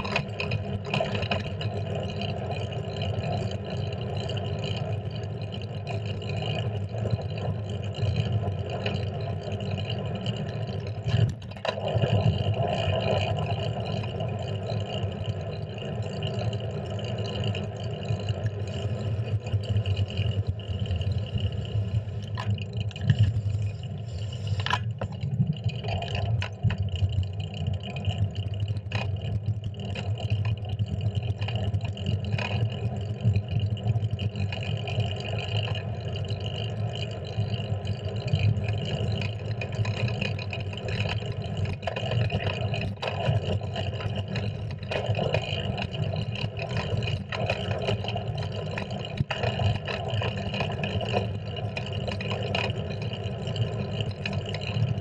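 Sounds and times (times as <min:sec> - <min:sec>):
bicycle tyre rumble: 0:00.0 - 0:55.0
small clicks and rattles: 0:00.0 - 0:55.0.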